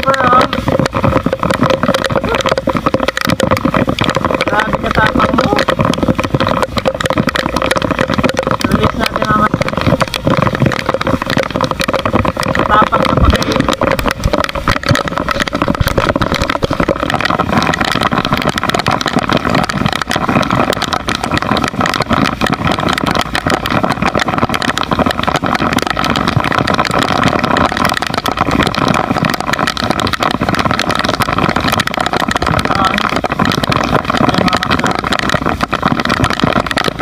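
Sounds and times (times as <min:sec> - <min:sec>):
boat engine running: 0:00.0 - 0:37.0
dense crackle: 0:00.0 - 0:37.0.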